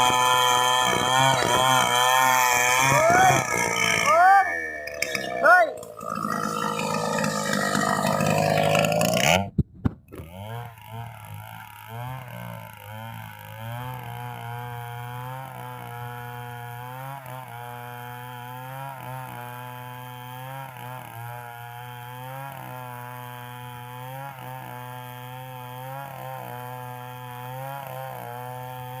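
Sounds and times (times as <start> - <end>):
power tool cutting wood: 0.0 - 29.0.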